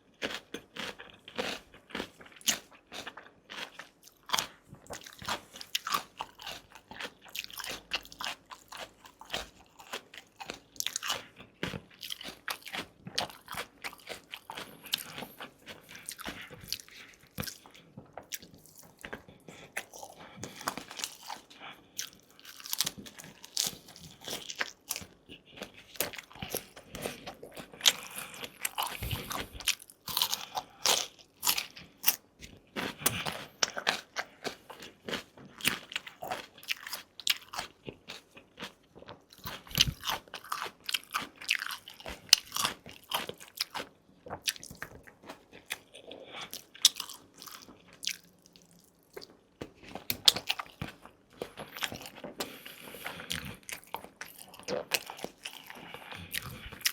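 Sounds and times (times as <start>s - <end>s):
crunchy bites and chewing: 0.1s - 56.9s.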